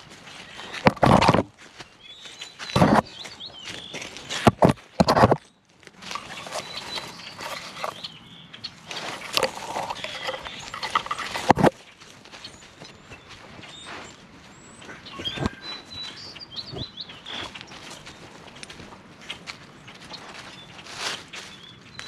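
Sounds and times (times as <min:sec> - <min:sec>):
brush rustling against camera: 0:00.0 - 0:21.6.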